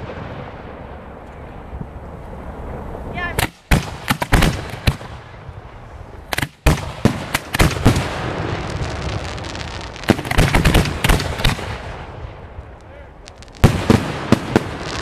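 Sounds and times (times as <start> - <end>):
fireworks bangs: 0.0 - 2.6, 3.2 - 15.0
fireworks crackling: 0.0 - 15.0.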